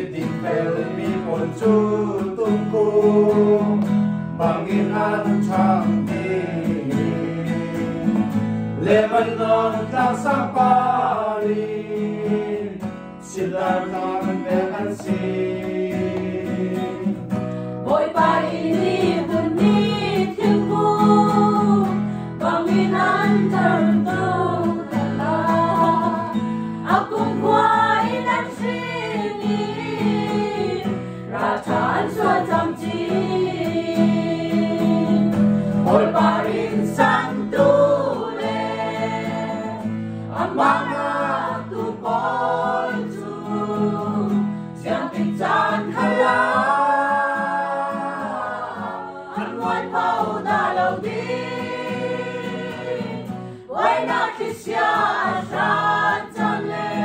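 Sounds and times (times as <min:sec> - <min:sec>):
small choir singing: 0:00.0 - 0:57.0
strummed acoustic guitar: 0:00.0 - 0:57.0.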